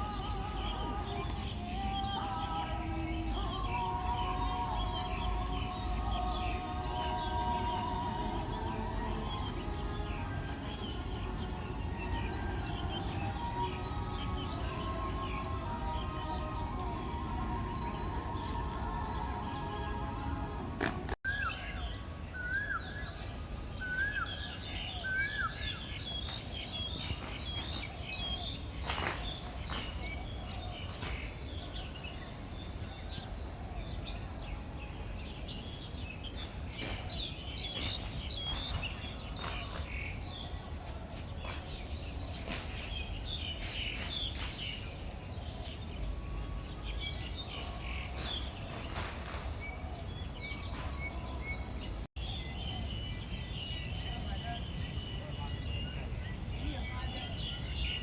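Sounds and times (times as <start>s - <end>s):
small birds chirping: 0.0s - 34.6s, 35.2s - 58.0s.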